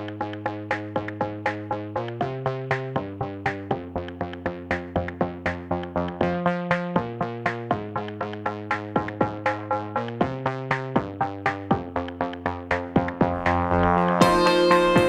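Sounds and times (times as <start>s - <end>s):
electronic music with drum machine: 0.0s - 15.0s.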